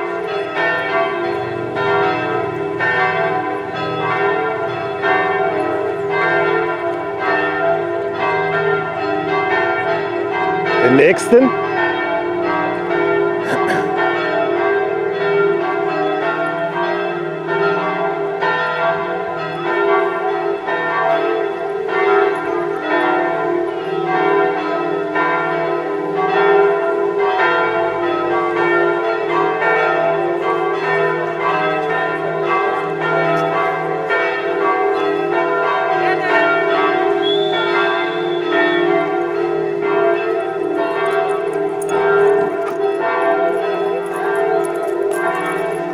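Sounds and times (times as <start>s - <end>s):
bells ringing: 0.0s - 45.9s.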